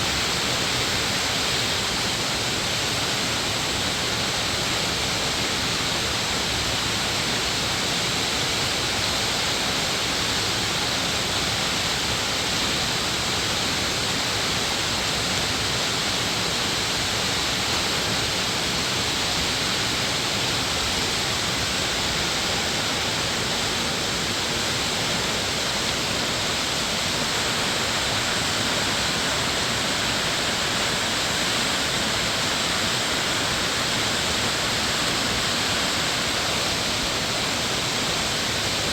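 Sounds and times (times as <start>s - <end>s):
rushing mountain stream: 0.0s - 38.9s.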